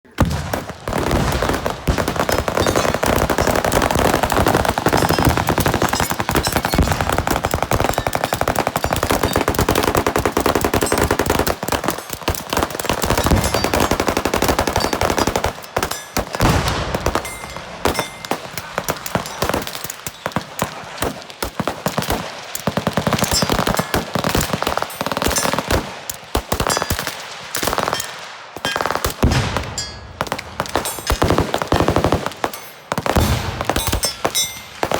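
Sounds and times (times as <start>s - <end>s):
rapid gunfire: 0.1s - 34.9s.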